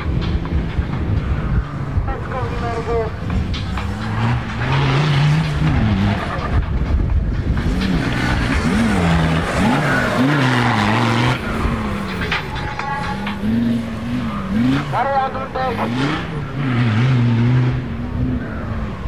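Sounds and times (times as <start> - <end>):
tyre and dirt noise: 0.0 - 19.0
race car engine revving hard: 1.5 - 19.0.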